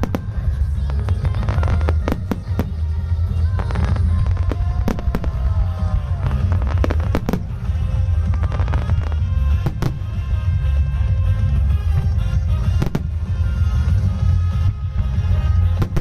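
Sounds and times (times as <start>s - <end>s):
firework shell bursts and crackles: 0.0s - 16.0s.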